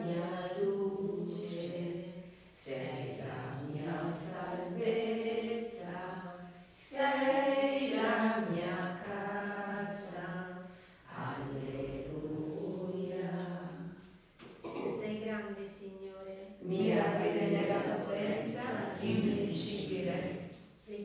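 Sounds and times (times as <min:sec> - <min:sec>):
women singing a chant: 0:00.0 - 0:14.0, 0:16.6 - 0:21.0.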